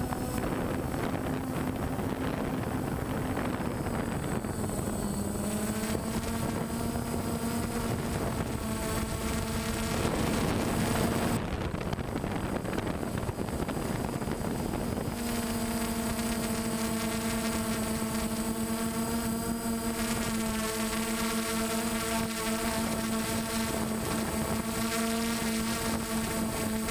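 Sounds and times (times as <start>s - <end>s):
engine humming: 0.0s - 26.9s.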